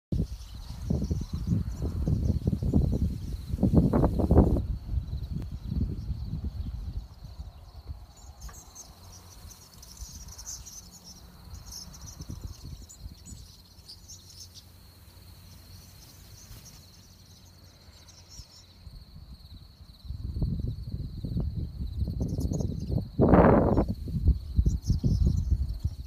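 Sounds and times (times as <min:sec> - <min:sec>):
wind rumble on microphone: 0:00.1 - 0:26.0
swallows twittering: 0:00.2 - 0:20.1, 0:22.0 - 0:26.0.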